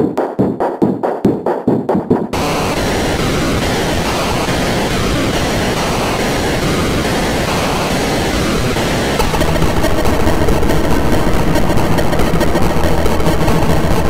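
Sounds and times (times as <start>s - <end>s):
loud static-like hiss: 2.4s - 14.0s.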